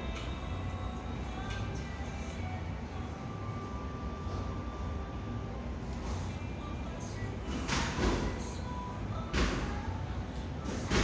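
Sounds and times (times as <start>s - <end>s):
background music: 0.0s - 11.0s
steady low hum: 0.0s - 11.0s.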